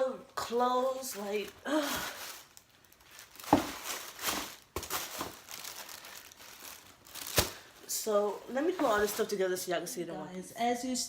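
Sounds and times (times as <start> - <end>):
packaging and clothes rustling: 0.5 - 9.7.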